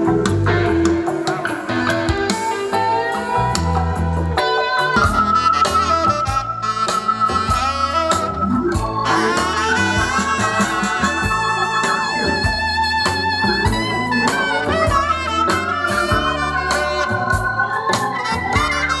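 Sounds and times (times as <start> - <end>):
band music playing: 0.0 - 19.0.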